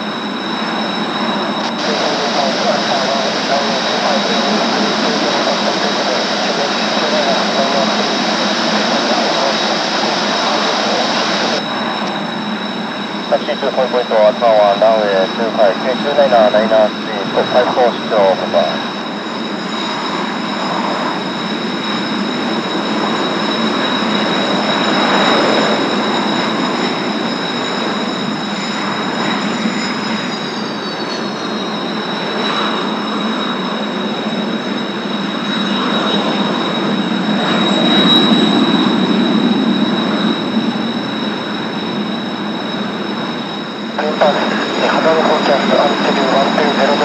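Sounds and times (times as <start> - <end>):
jet engine high whine: 0.0 - 47.0
jet engine roar: 0.0 - 47.0.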